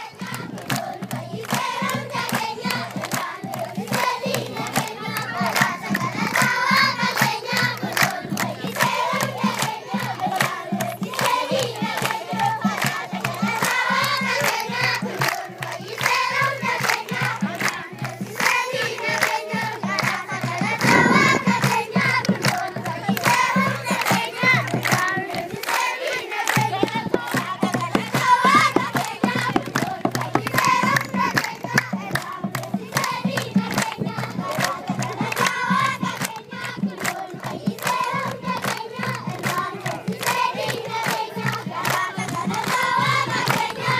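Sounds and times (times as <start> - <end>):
children clapping in rhythm: 0.0 - 43.9
children singing together: 0.0 - 43.9.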